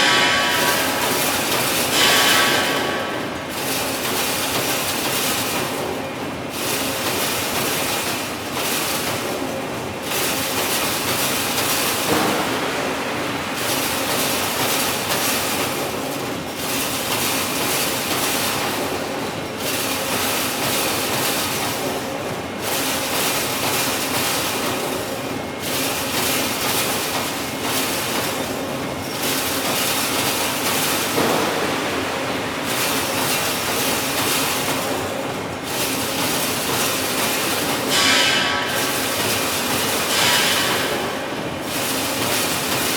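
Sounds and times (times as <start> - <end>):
machine metallic clatter: 0.0 - 21.8, 22.7 - 42.9.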